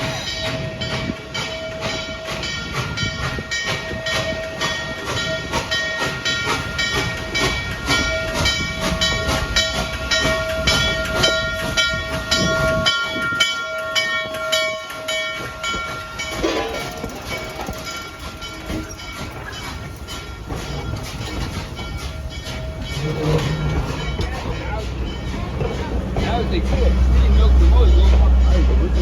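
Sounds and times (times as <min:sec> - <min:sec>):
low train rumble: 0:00.0 - 0:29.0
train wheels clicking over rail joints: 0:00.0 - 0:29.0.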